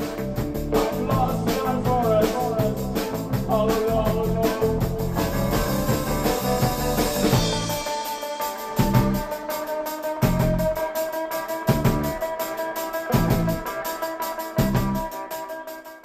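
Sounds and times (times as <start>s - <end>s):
rock background music: 0.0s - 16.0s.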